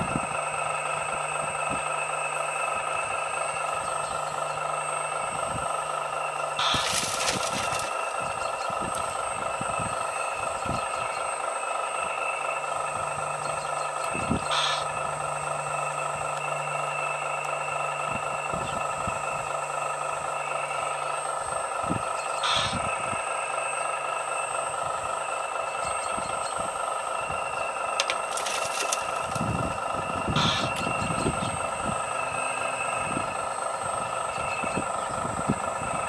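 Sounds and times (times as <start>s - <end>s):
low hum: 0.0s - 36.0s
model excavator motor whining: 0.0s - 36.0s.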